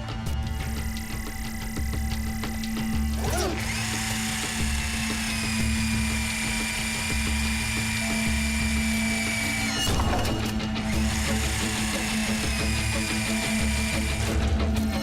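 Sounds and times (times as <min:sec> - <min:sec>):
cartoon music with bass pulse: 0:00.0 - 0:15.0
high-pitched mechanical whine: 0:00.0 - 0:15.0.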